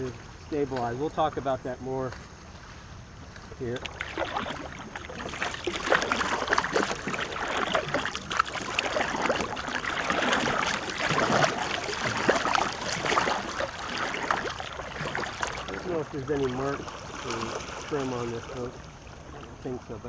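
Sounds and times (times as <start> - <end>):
water splashing around canoe: 2.5 - 20.0.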